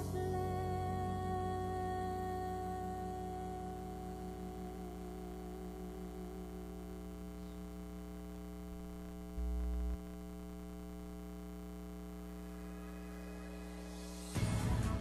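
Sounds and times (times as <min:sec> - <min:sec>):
low hum: 0:00.0 - 0:15.0
steady hum of held tones: 0:00.0 - 0:15.0.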